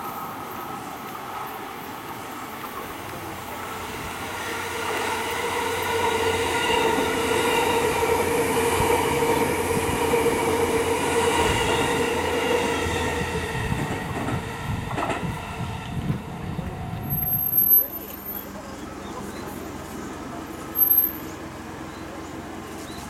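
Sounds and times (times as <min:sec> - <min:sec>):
electric train whine: 0:00.0 - 0:23.0
wheels rumbling on rail: 0:00.0 - 0:23.0.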